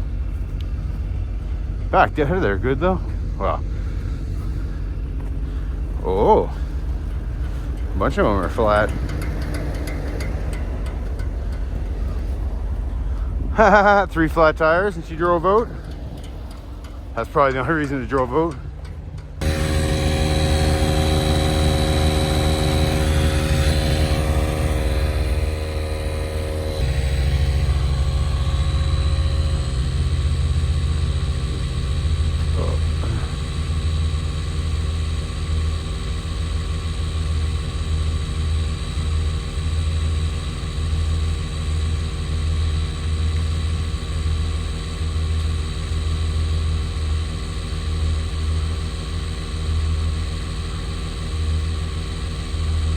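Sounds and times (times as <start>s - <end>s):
motor droning: 0.0s - 52.9s.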